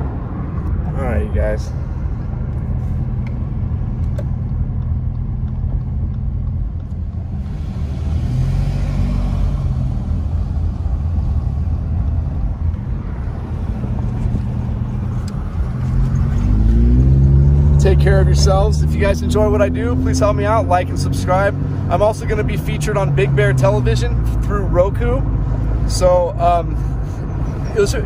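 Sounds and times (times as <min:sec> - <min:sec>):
car engine rumble: 0:00.0 - 0:28.0.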